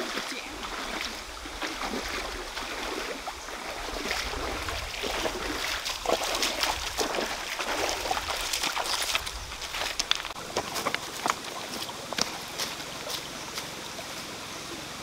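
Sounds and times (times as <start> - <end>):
feet splashing in stream: 0.0 - 14.4
running water: 0.0 - 15.0.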